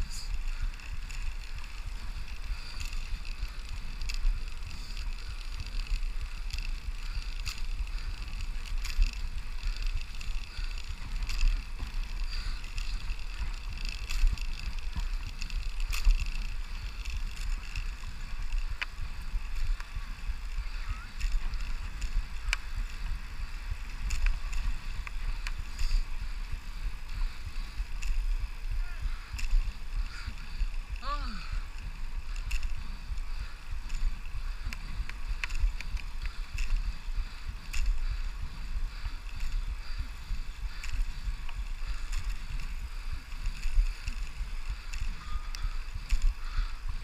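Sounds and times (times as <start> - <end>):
bicycle clicks and rattles: 0.0 - 47.0
wind rumble on microphone: 0.0 - 47.0.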